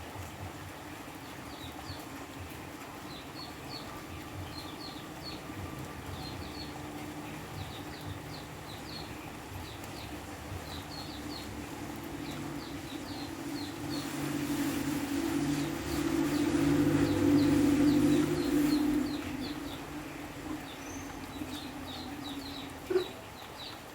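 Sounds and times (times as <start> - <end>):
rain hissing: 0.0 - 23.9.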